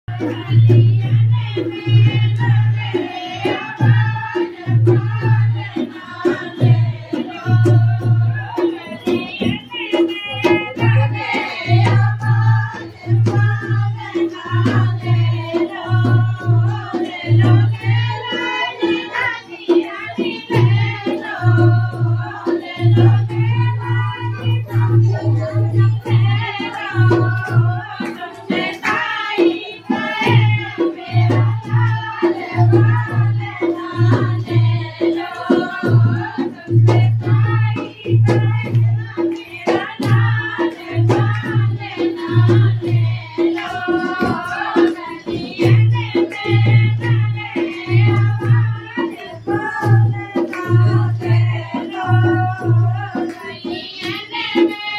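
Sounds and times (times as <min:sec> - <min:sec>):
hand drum beating: 0:00.1 - 0:54.9
women singing folk song: 0:00.1 - 0:54.9.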